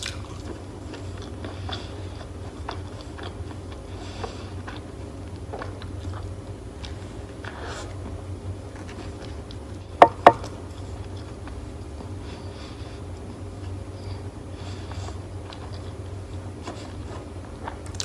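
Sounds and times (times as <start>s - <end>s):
chewing a burger: 0.0s - 9.9s, 10.5s - 18.0s.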